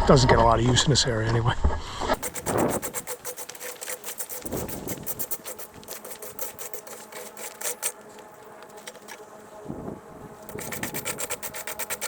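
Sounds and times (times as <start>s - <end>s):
gravel clicking and scraping: 2.2s - 12.0s.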